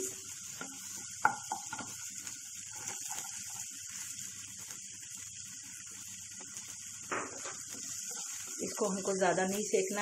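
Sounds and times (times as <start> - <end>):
ghee sizzling in a frying pan: 0.0 - 10.0.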